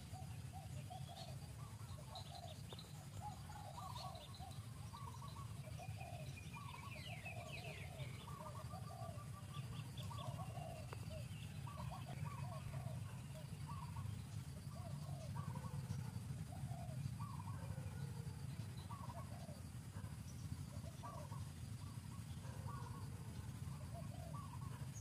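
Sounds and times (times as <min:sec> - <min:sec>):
animals chirping: 0:00.0 - 0:25.0
low steady rumble: 0:00.0 - 0:25.0.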